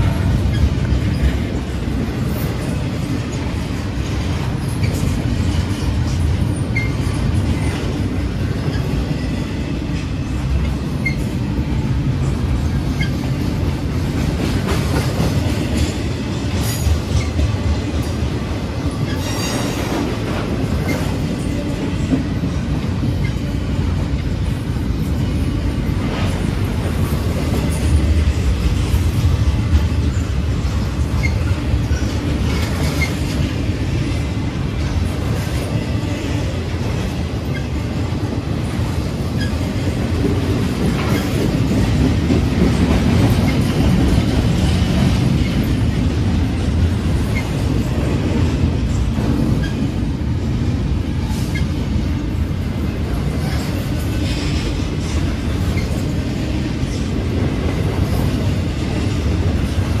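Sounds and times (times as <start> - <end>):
steel wheels rumbling on rail: 0.0 - 60.0.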